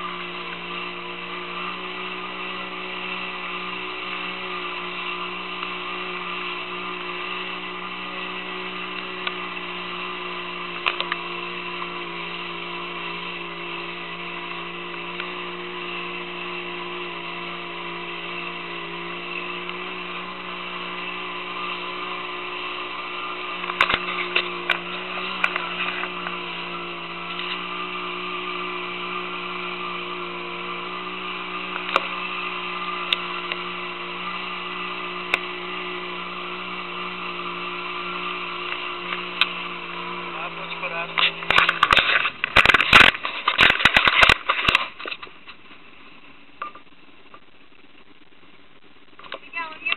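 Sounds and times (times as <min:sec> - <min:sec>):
boat motor running: 0:00.0 - 0:49.9.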